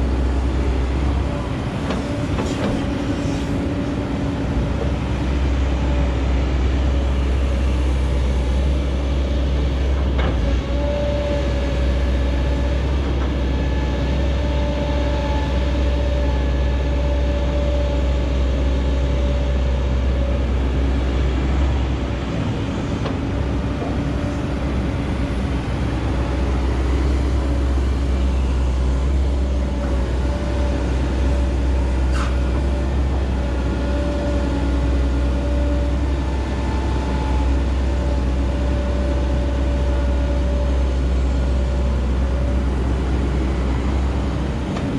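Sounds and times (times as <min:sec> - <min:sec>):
diesel earthmoving machinery running: 0:00.0 - 0:44.9.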